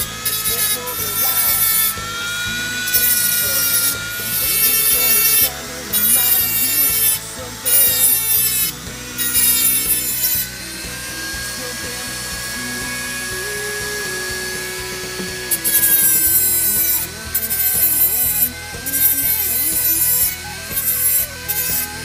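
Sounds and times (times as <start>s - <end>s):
motor whining: 0.0s - 22.0s
rotary tool grinding steel: 0.0s - 22.0s.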